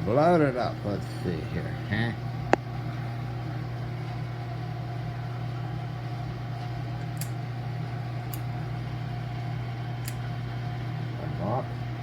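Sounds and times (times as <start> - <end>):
electric motor hum: 0.0 - 12.0.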